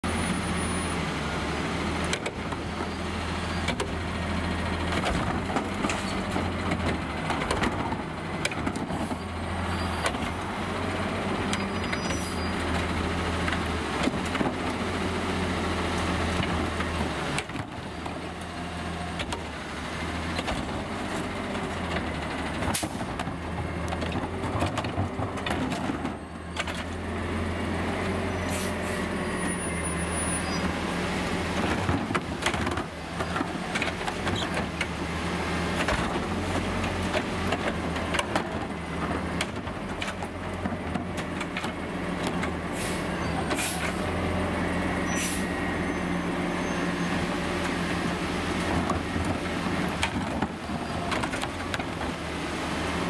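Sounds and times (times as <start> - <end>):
garbage truck running: 0.0 - 53.0.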